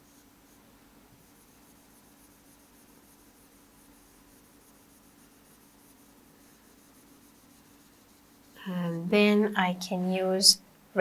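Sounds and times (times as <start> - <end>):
stylus scratching on screen: 0.0 - 10.6
steady low hum: 0.0 - 11.0.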